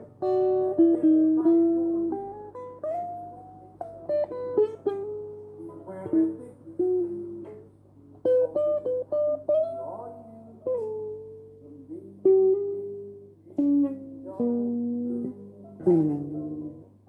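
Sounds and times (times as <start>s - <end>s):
clean electric guitar notes: 0.0s - 17.0s.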